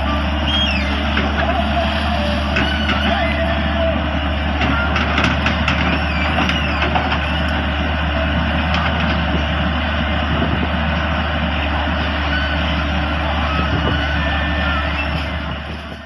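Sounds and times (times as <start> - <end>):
diesel excavator engine running: 0.0 - 16.0.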